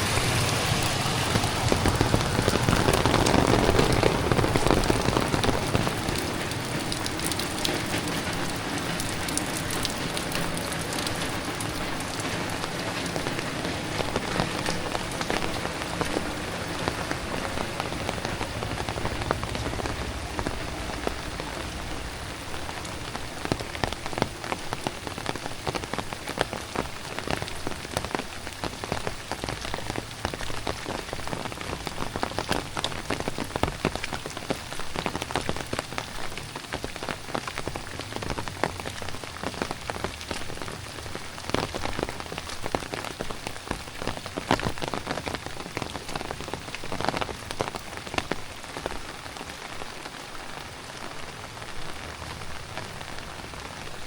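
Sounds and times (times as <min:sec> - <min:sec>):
heavy rain falling: 0:00.0 - 0:54.0
raindrop hits close by: 0:00.0 - 0:54.0.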